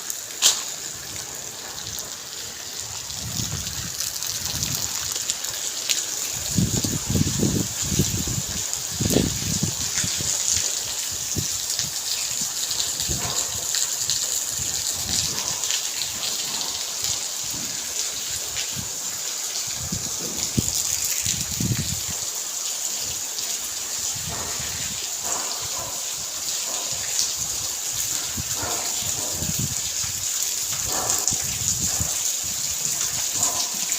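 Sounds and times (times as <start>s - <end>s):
heavy rain falling: 0.0s - 33.9s
water pouring and splashing: 0.0s - 33.9s.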